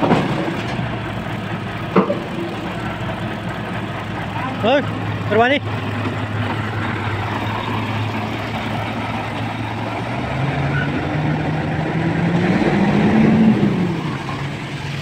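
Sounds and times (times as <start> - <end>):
diesel truck engine revving: 0.0 - 15.0.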